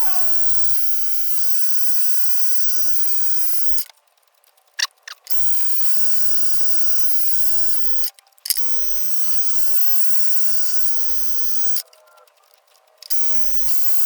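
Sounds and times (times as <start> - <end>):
sharp clicks: 0.0 - 14.0.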